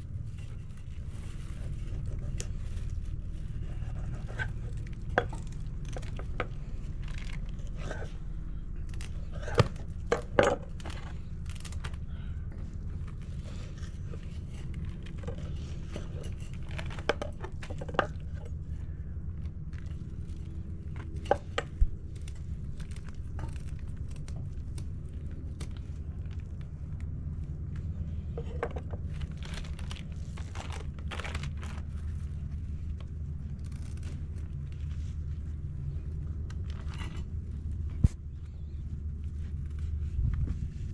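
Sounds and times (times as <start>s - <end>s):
light scraping and handling: 0.0s - 40.9s
low hum: 0.0s - 40.9s.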